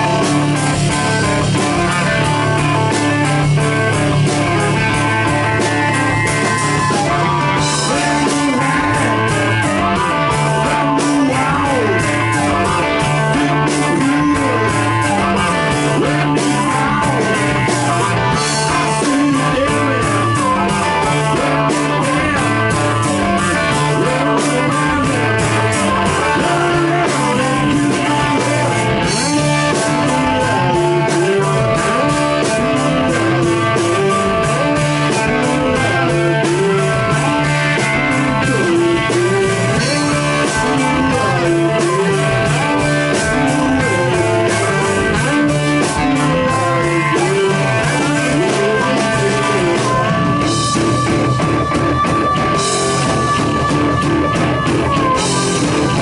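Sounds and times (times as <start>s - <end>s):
bass guitar: 0.0s - 56.0s
drum kit: 0.0s - 56.0s
electric guitar: 0.0s - 56.0s
harmonica bending notes: 0.0s - 56.0s.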